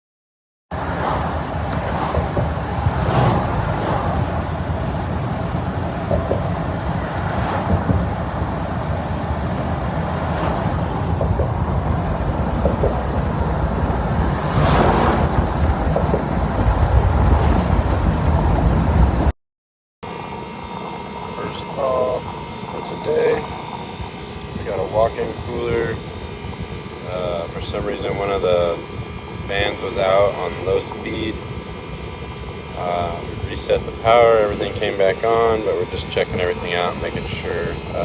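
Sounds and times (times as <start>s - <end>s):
low rumbling noise: 0.7s - 19.3s, 20.0s - 38.0s
wind buffeting microphone: 0.8s - 19.3s, 20.1s - 38.0s.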